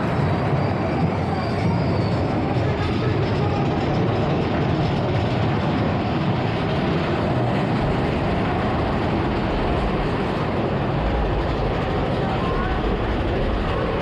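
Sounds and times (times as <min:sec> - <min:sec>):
coaster cars rumbling on track: 0:00.0 - 0:14.0.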